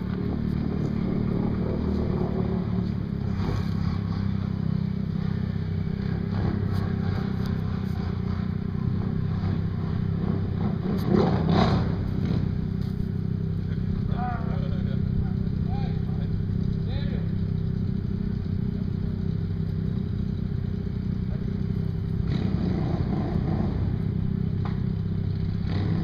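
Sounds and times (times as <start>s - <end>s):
quad engine running: 0.0s - 26.0s.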